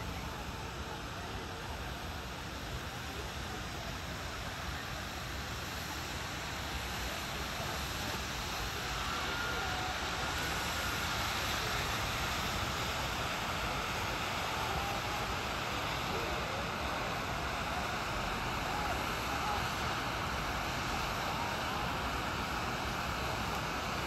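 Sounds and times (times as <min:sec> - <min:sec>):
firework fountains hissing: 0:00.0 - 0:24.0.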